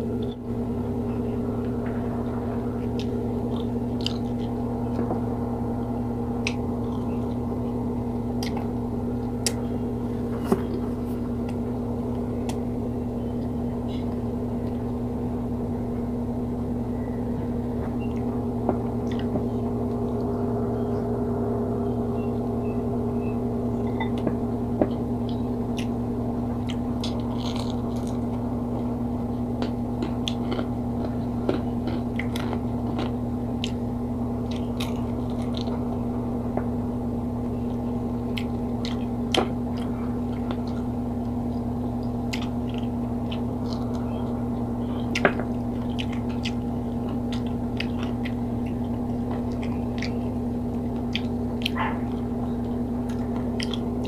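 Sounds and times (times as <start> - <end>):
person chewing food: 0.0 - 15.1, 17.7 - 21.2, 22.1 - 54.0
steady low hum: 0.0 - 54.0.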